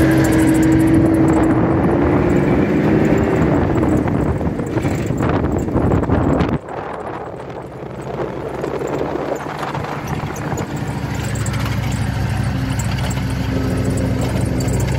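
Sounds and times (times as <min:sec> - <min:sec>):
car engine hum: 0:00.0 - 0:14.9
road noise: 0:00.0 - 0:14.9.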